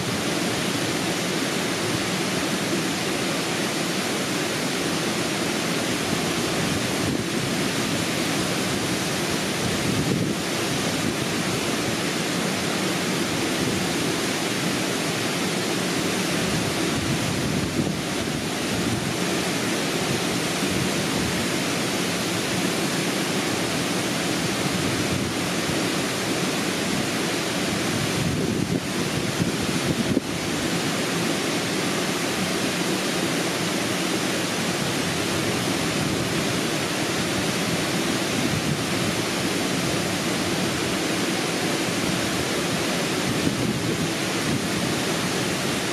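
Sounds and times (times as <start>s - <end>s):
rushing water roar: 0.0s - 45.9s.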